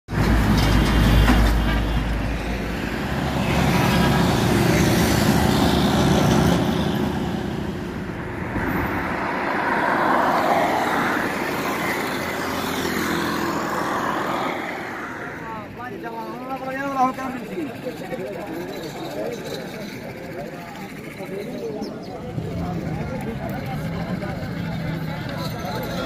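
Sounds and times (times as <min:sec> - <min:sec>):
passing vehicles noise: 0:00.1 - 0:26.0
truck engine rumble: 0:00.1 - 0:26.0.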